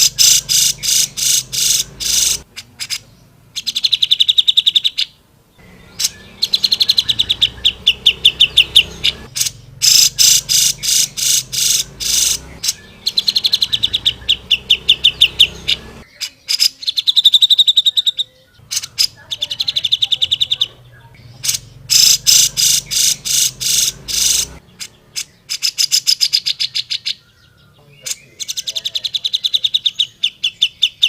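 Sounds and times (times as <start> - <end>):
bird singing rattling trills: 0.0 - 31.0.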